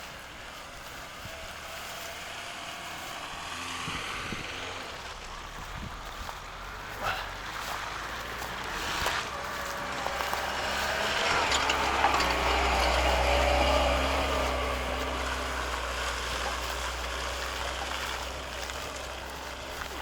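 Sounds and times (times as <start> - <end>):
car engine passing: 0.0 - 20.0.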